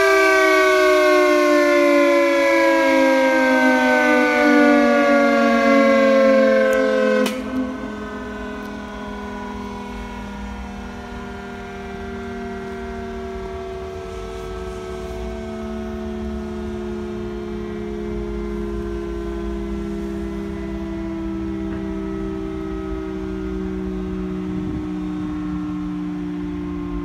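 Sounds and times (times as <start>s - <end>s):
two-tone siren sliding down in pitch: 0.0s - 27.0s.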